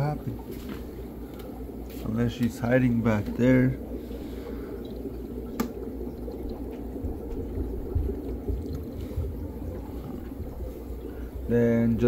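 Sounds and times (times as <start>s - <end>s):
aquarium bubbling: 0.0s - 12.0s
low hum: 0.0s - 12.0s.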